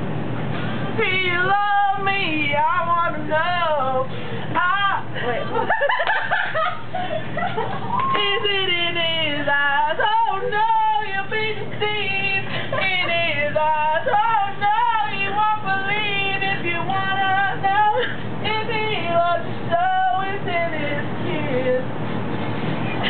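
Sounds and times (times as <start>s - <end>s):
woman singing with vibrato: 0.9s - 6.9s, 7.8s - 21.9s.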